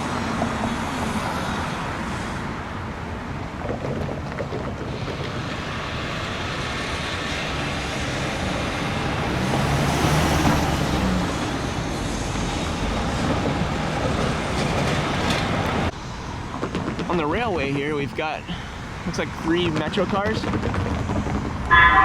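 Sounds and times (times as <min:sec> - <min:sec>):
passing cars rushing: 0:00.0 - 0:22.0
vehicle engine hum and tyre noise: 0:00.0 - 0:22.0.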